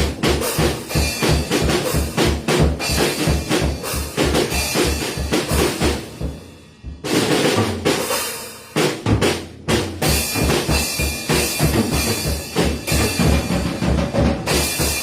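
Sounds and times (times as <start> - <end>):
drum kit played hard: 0.0 - 15.0
fast bass drum pattern: 0.0 - 15.0.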